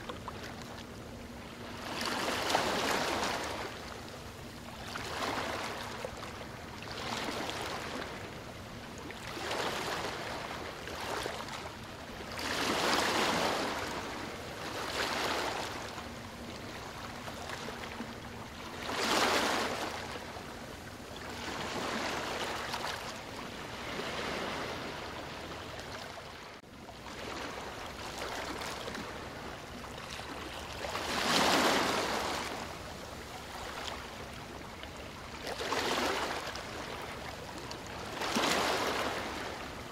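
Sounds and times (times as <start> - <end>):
sea water lapping and sloshing: 0.0 - 39.9.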